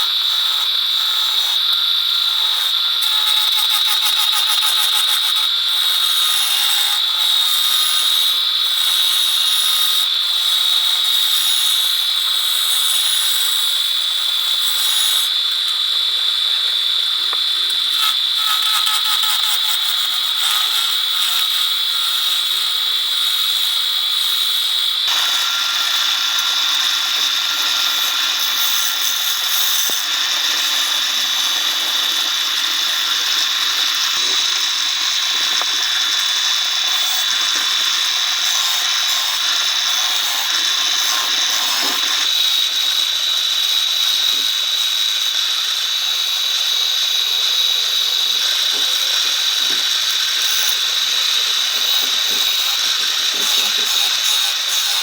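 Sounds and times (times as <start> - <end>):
power tool whining: 0.0 - 55.0.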